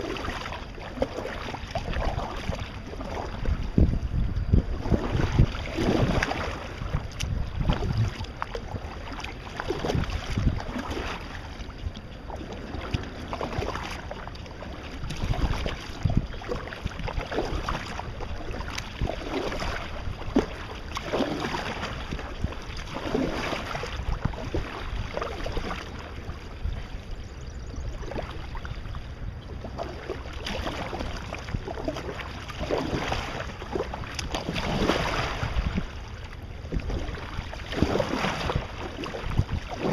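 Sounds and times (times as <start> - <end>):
paddle splashing in water: 0.0 - 39.9
wind on microphone: 0.0 - 39.9.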